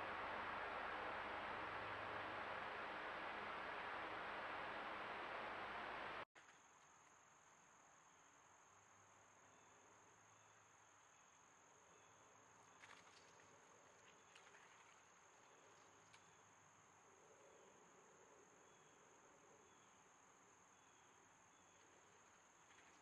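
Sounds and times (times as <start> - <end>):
faint high-pitched whine: 0.0 - 23.0.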